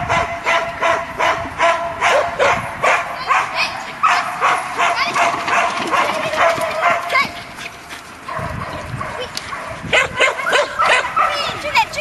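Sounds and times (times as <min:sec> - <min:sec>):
dog barking: 0:00.0 - 0:07.3, 0:08.3 - 0:11.6.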